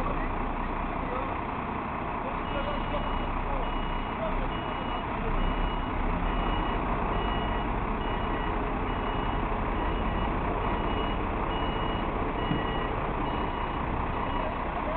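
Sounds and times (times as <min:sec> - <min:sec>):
truck engine running: 0:00.0 - 0:14.9
truck reversing alarm beeping: 0:02.3 - 0:14.9.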